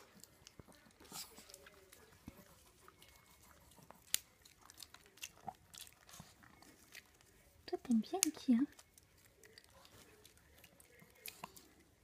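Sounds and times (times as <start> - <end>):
dog crunching biscuit: 0.0 - 12.0.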